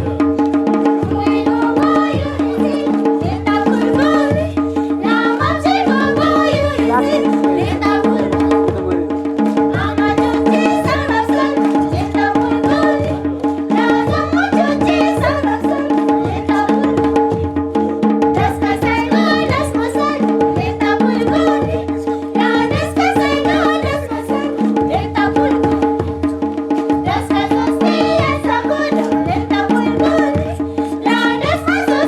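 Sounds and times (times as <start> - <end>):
drum beating steady rhythm: 0.0 - 32.0.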